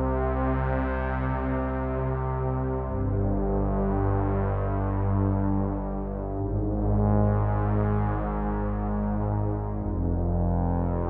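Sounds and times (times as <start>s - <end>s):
synthesizer low drone notes: 0.0s - 11.0s.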